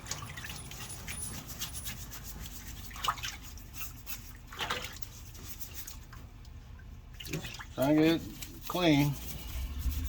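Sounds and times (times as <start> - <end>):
liquid sloshing and dripping: 0.0 - 8.8
scrubbing strokes: 0.0 - 10.0.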